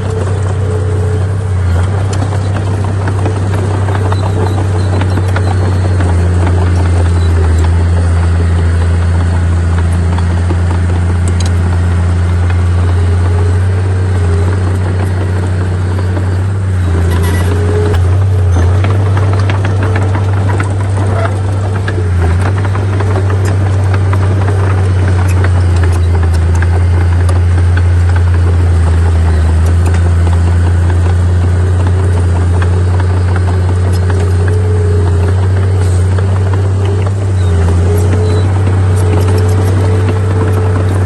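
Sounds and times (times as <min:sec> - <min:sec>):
earthmoving machinery engine hum: 0:00.0 - 0:41.0.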